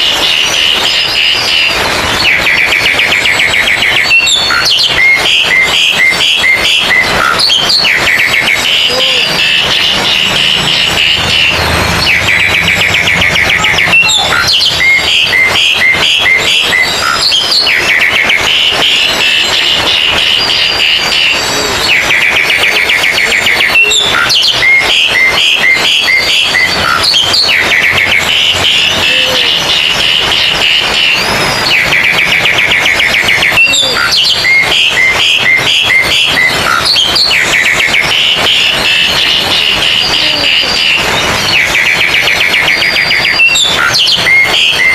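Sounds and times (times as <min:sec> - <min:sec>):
magpie-robins singing: 0:00.0 - 0:44.9.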